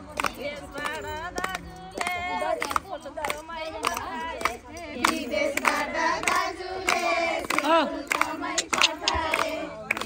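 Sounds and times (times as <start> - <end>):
hand claps: 0.0 - 10.0
women singing folk song: 0.0 - 10.0.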